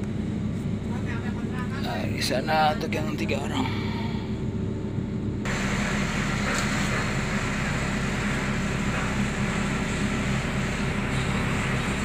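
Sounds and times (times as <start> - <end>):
diesel engine idling hum: 0.0 - 12.0.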